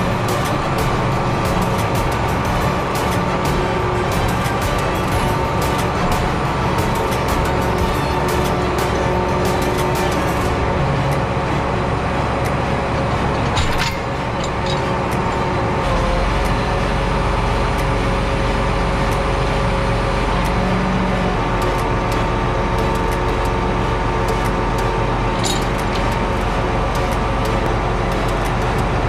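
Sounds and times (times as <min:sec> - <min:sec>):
tractor diesel engine idling: 0:00.0 - 0:29.0.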